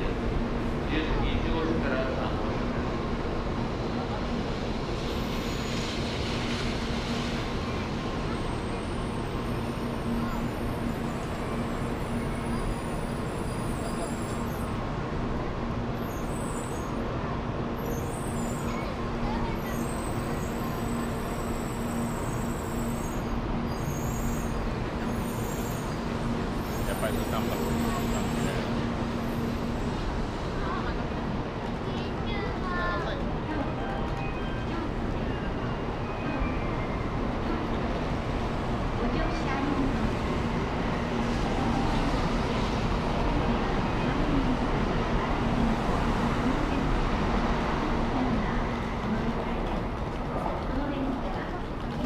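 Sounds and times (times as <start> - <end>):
train platform hum and rumble: 0.0 - 52.0.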